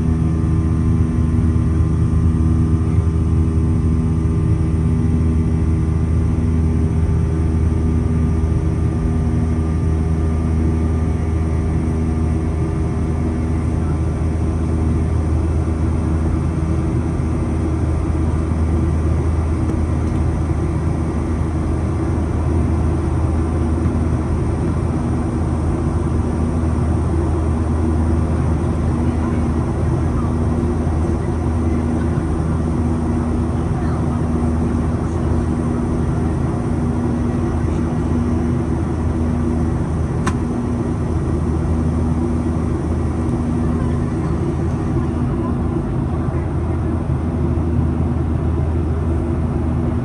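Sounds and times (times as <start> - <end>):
airplane cabin drone: 0.0 - 50.0.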